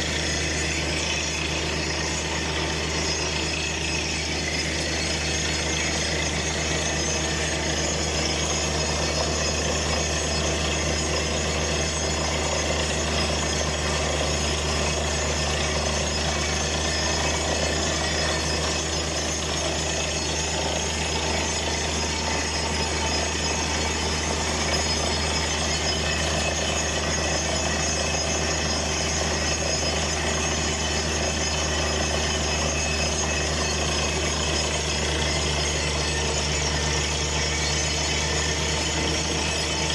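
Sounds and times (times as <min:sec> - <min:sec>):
drilling rig engine drone: 0:00.0 - 0:39.9.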